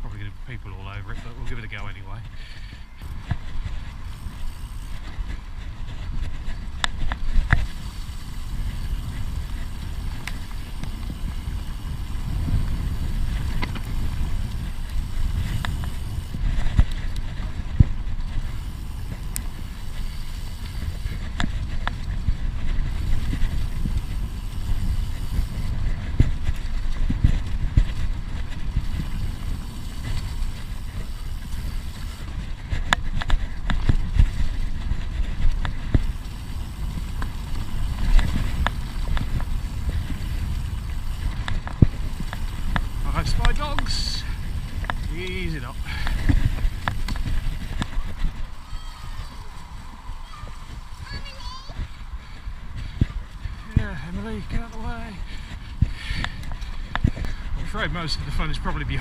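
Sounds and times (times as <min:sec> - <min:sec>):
bike rattling over bumps: 0:00.0 - 0:59.0
bike tyre rumble: 0:00.0 - 0:59.0
wind buffeting microphone: 0:00.0 - 0:59.0.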